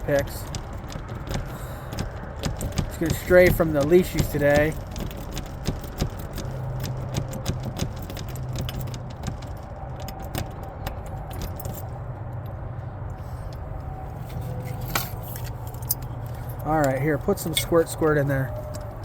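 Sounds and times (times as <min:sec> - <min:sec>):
lock pick ticking and scraping: 0:00.0 - 0:12.6, 0:14.3 - 0:19.0.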